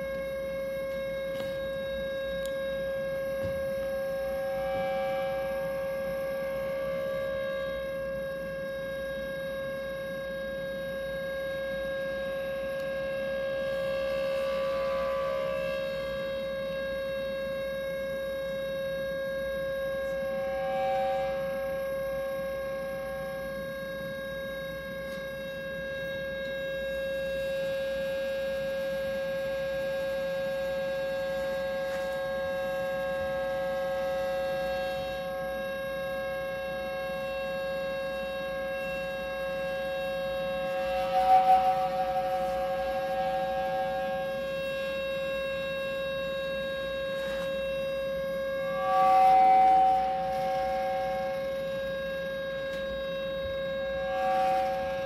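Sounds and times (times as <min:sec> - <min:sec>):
electronic drone: 0:00.0 - 0:55.0.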